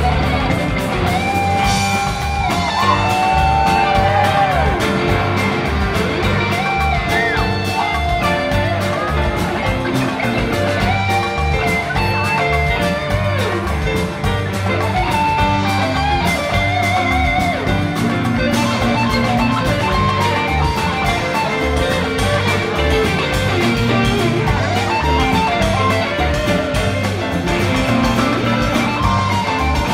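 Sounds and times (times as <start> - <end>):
bass notes: 0.0 - 29.9
electric guitar lead: 0.0 - 29.9
steady drum beat: 0.0 - 29.9.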